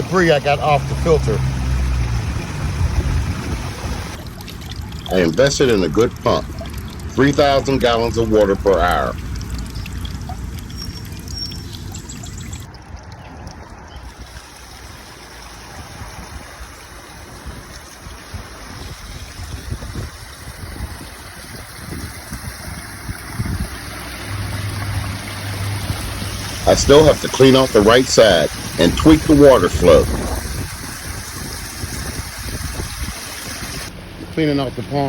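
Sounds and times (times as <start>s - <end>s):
waterfall splashing into pond: 0.0s - 35.0s.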